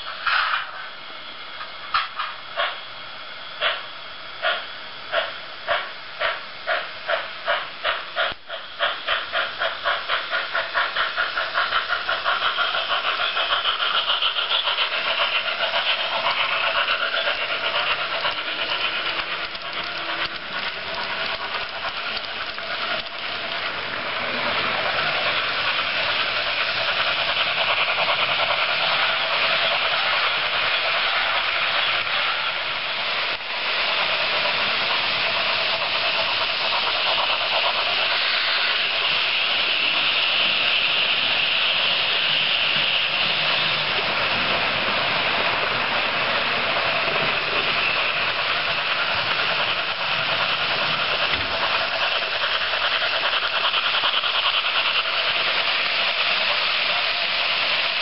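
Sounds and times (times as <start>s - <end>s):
model train rushing noise: 0.0s - 58.0s
model train steam chuffing: 0.0s - 58.0s.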